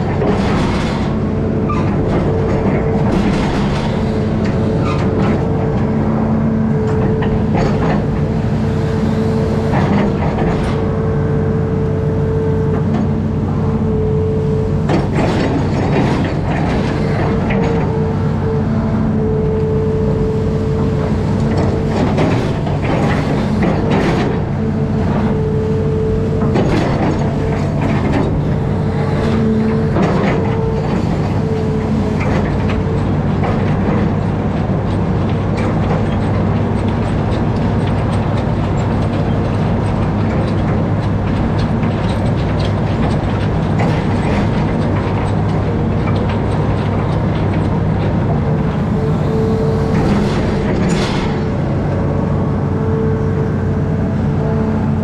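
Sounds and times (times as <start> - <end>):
clanking knocks: 0.0 - 11.0, 14.8 - 19.7, 20.8 - 52.3
diesel engine running: 0.0 - 55.0
mechanical whine: 0.0 - 55.0.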